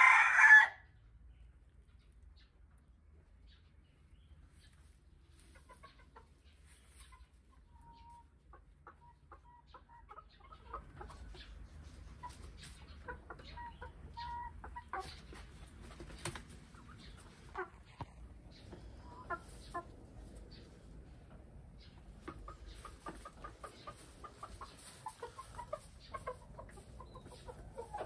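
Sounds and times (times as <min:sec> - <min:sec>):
hens clucking: 0:04.4 - 0:28.0.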